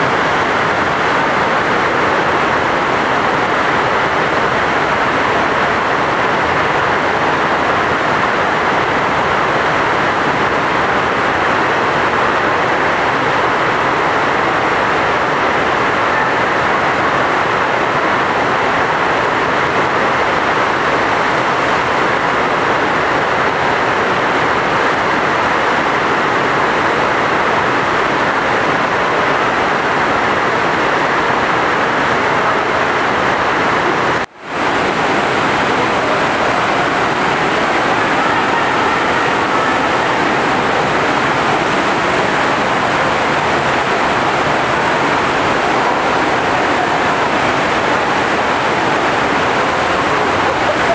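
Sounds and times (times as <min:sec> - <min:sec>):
rushing water sheet: 0:00.0 - 0:50.9.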